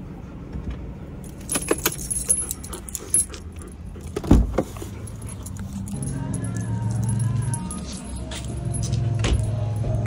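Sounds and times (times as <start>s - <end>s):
keys jangling: 1.2s - 10.0s.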